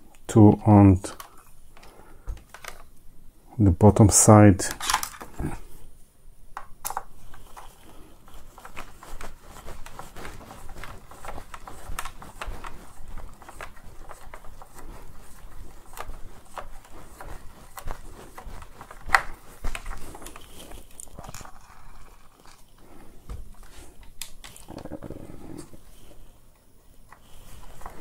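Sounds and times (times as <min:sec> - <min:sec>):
plastic battery pack handled: 0:01.0 - 0:03.0, 0:04.6 - 0:05.6, 0:06.6 - 0:26.3.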